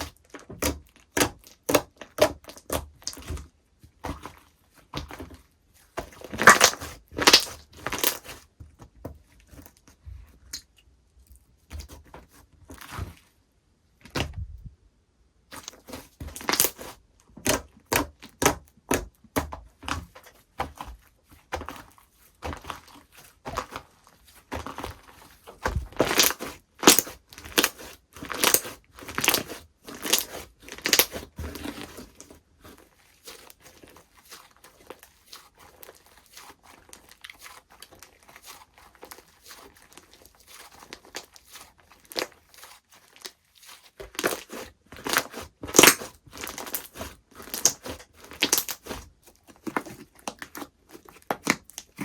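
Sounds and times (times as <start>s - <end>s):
slime squished by hand: 0.0s - 13.4s, 15.4s - 52.0s.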